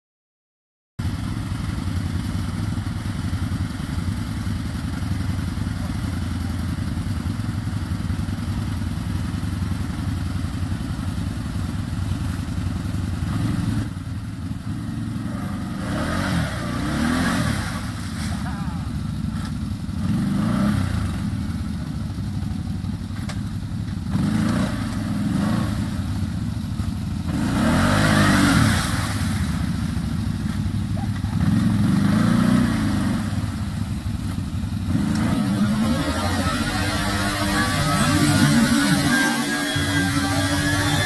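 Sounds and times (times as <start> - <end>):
atv engine revving: 1.0 - 41.0.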